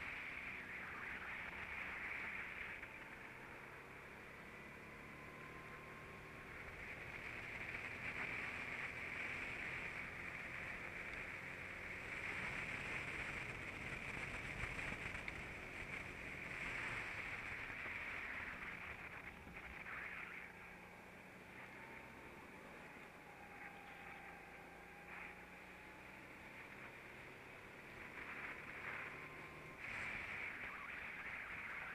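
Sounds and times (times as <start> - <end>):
go-kart engine and wind rush: 0.0 - 31.9.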